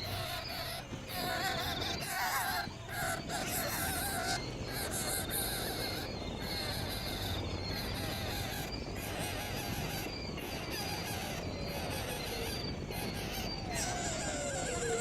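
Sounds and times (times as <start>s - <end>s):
bird calls: 0.0s - 15.0s
outdoor background noise: 0.0s - 15.0s.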